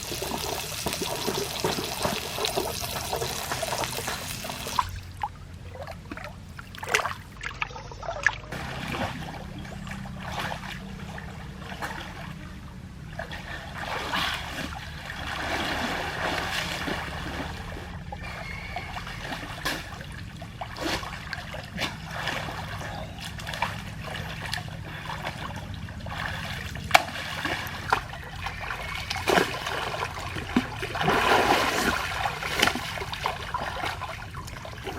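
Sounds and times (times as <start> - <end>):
water trickling and splashing: 0.0 - 34.9.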